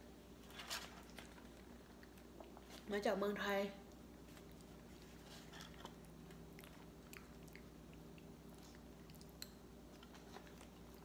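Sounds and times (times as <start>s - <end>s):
steady low hum: 0.0s - 11.0s
faint chewing: 0.8s - 2.9s, 3.8s - 11.0s.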